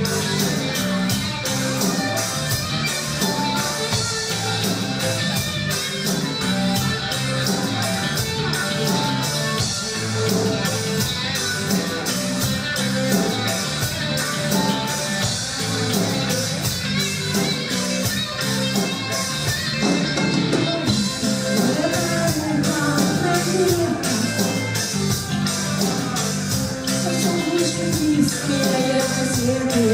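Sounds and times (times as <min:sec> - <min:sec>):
bass guitar: 0:00.0 - 0:29.9
drum kit beat: 0:00.0 - 0:29.9
electric guitars: 0:00.0 - 0:29.9.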